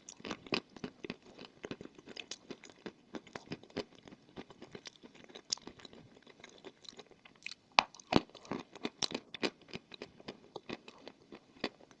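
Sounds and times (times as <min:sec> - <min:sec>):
chalk crunching and chewing: 0:00.0 - 0:12.0.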